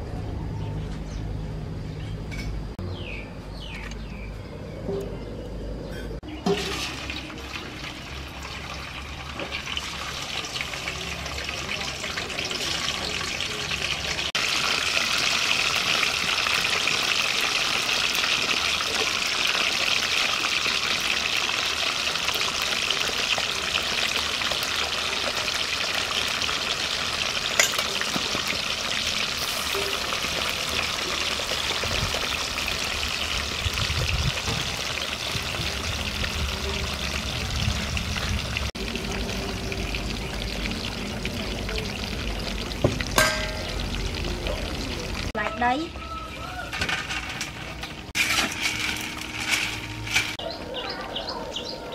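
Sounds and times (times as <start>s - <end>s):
fish deep-frying in oil: 6.2s - 50.7s.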